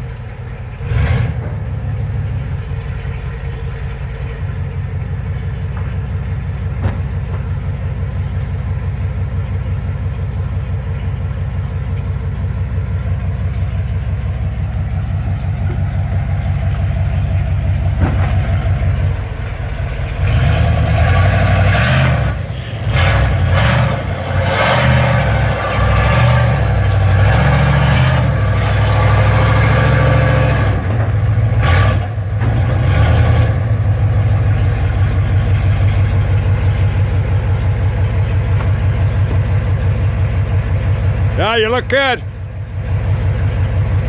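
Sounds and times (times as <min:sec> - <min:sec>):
truck engine idling and revving: 0:00.0 - 0:44.0.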